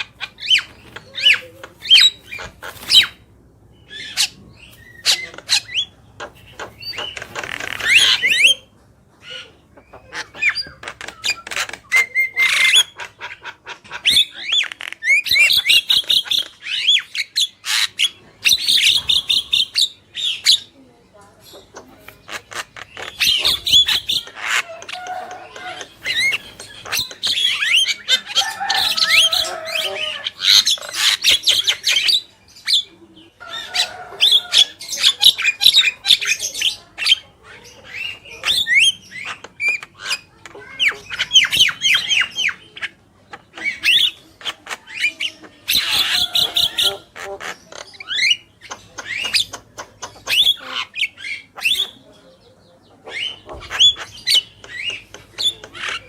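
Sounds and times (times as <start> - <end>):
myna bird chattering: 0.0 - 56.0.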